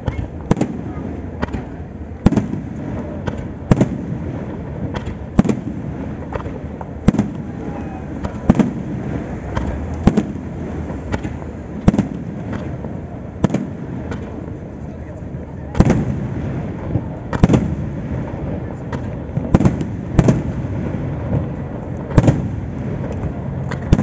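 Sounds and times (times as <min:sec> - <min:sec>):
small firework pops: 0:00.0 - 0:14.6, 0:15.7 - 0:24.0.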